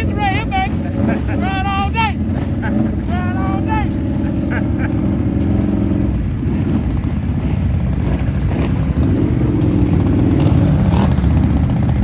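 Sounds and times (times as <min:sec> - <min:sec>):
atv engines droning: 0:00.0 - 0:12.0.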